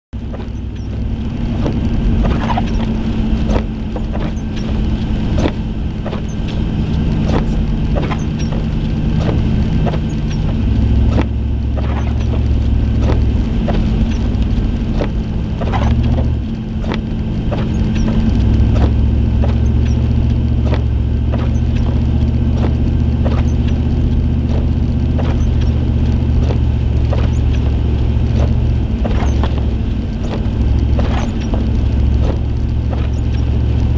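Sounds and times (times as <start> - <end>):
engine and tyre rumble: 0.1 - 33.9
sharp ticks and knocks: 0.2 - 33.9.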